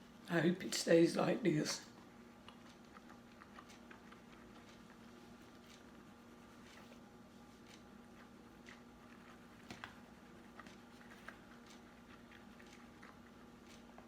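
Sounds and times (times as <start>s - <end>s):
low steady hum: 0.0s - 14.0s
soft chewing: 1.8s - 14.0s.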